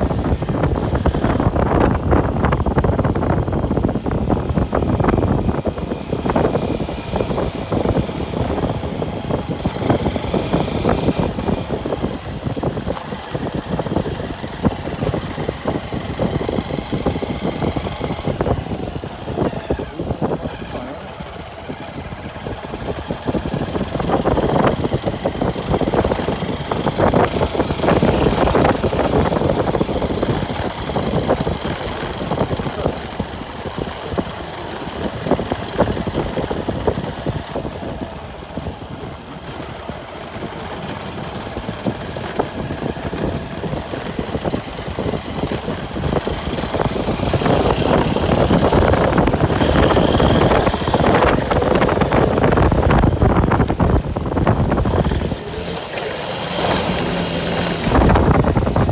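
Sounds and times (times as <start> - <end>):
motorcycle engine drone: 0.0 - 58.9.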